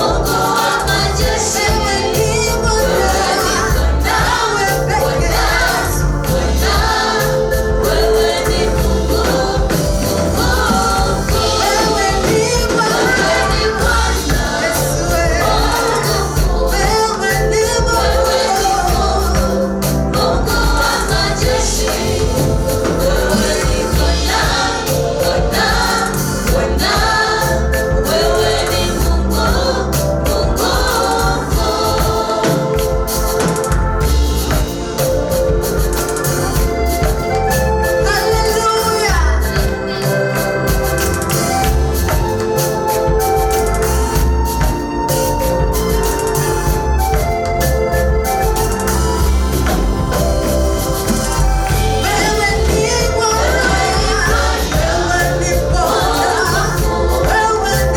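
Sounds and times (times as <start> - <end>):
choir singing gospel: 0.0 - 57.9
instrumental accompaniment: 0.0 - 57.9
steady bass: 0.0 - 57.9.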